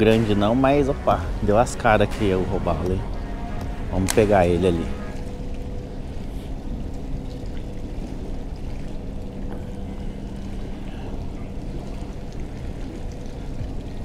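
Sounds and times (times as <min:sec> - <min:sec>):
faint continuous hum: 0:00.0 - 0:14.0
water lapping against boat hull: 0:00.0 - 0:14.0.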